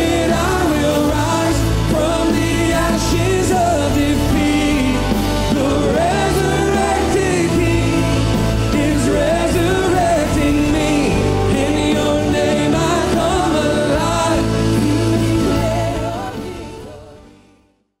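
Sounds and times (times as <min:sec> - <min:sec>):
worship song with band and singing: 0:00.0 - 0:17.6.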